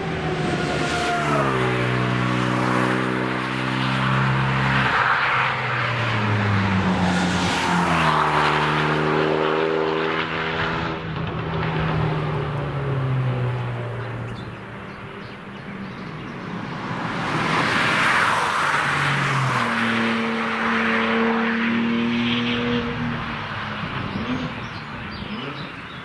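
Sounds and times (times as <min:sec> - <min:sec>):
race cars passing at speed: 0:00.0 - 0:26.0.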